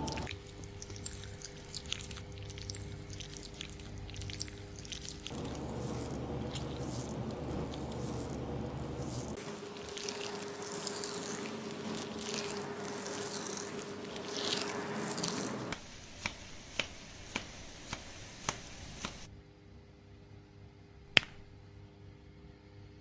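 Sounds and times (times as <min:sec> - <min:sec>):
fingers scrubbing lathered hair: 0:00.0 - 0:19.3.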